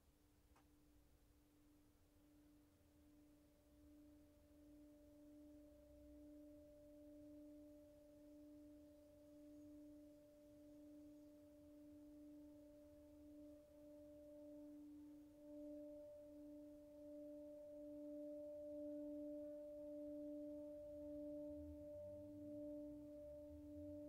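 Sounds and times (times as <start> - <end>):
singing bowls ringing: 4.0 - 24.0.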